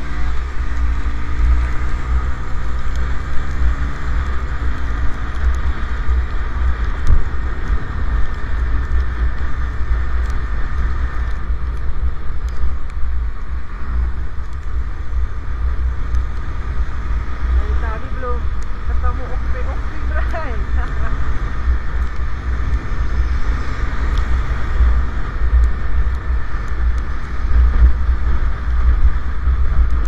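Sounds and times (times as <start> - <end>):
motorcycle engine and road noise: 0.0 - 30.0
truck drone: 0.0 - 30.0.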